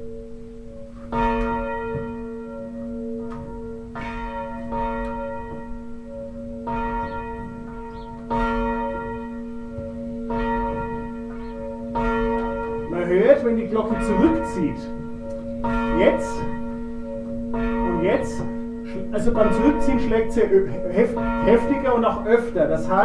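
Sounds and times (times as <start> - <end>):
church bell ringing: 0.0 - 23.0.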